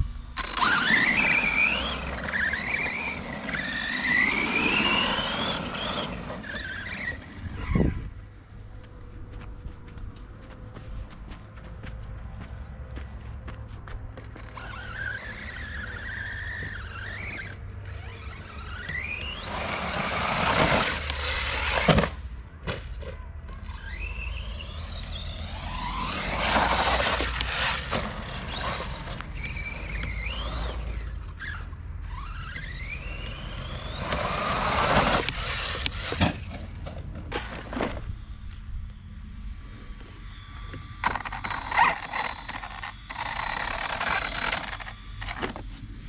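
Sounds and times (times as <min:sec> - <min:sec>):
electric motor whining: 0:00.0 - 0:08.2, 0:14.4 - 0:22.2, 0:23.6 - 0:38.6, 0:39.6 - 0:45.8
tyres scrabbling on loose dirt: 0:00.4 - 0:08.1, 0:08.9 - 0:22.2, 0:22.8 - 0:38.7, 0:40.4 - 0:46.0.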